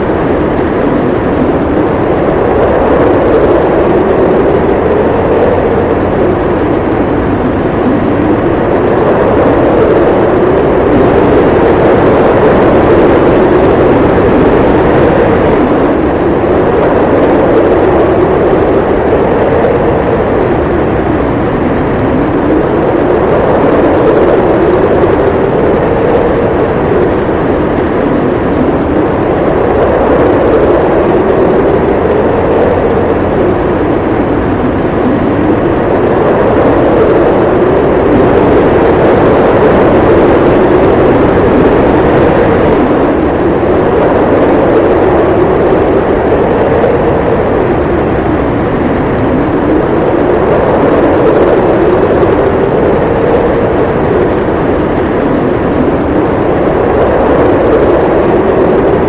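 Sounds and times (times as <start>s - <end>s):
strong wind howling: 0.0s - 59.0s.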